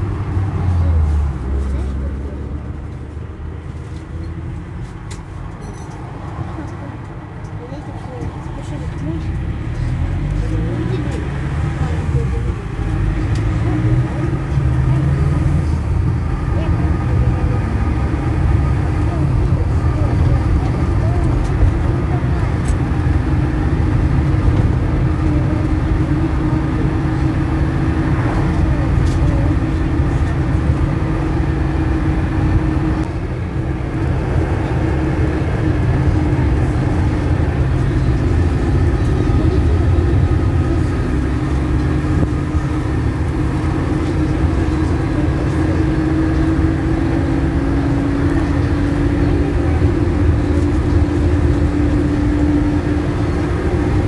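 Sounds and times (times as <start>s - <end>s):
bus engine drone: 0.0s - 54.0s
tyres rumbling on road: 0.0s - 54.0s.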